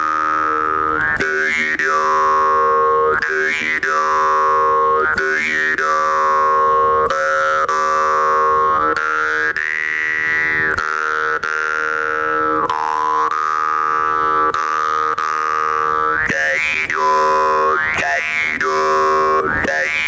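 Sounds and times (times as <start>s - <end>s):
jaw harp twanging melody: 0.0s - 20.0s.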